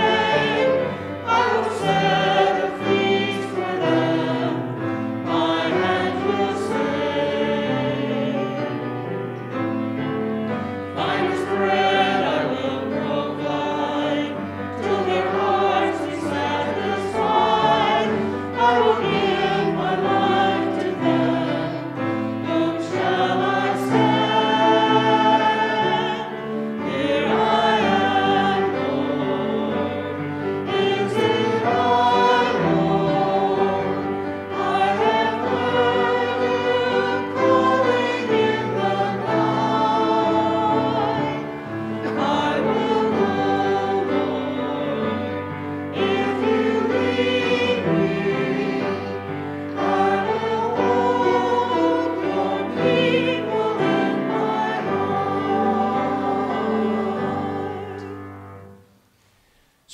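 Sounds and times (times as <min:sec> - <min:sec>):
choir singing a hymn: 0:00.0 - 0:58.9.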